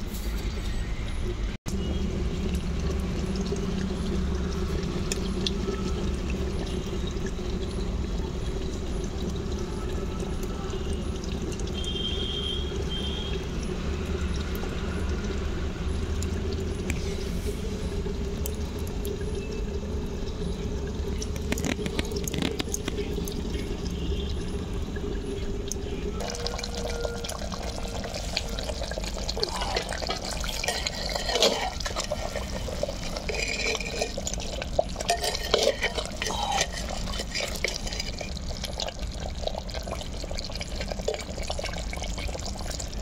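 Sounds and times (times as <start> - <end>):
curry bubbling in a pot: 1.7 - 43.0.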